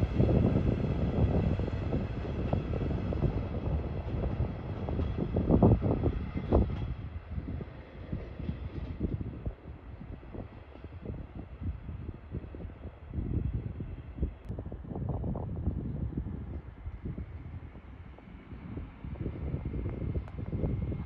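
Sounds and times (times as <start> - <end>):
low train rumble: 0.0 - 21.0.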